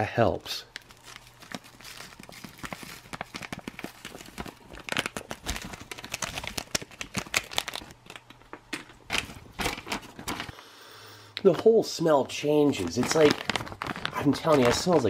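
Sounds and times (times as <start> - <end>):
plastic bag crinkling: 0.7 - 10.5, 12.6 - 15.0.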